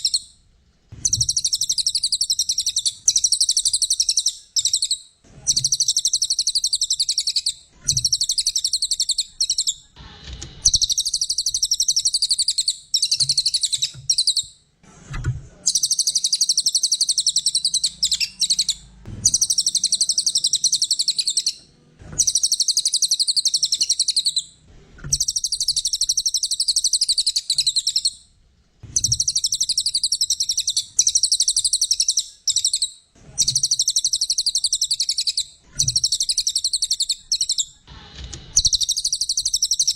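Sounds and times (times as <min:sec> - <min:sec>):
bird trilled chatter: 0:01.1 - 0:09.8, 0:10.7 - 0:14.5, 0:15.7 - 0:21.6, 0:22.2 - 0:24.5, 0:25.2 - 0:28.2, 0:29.0 - 0:37.8, 0:38.6 - 0:39.9.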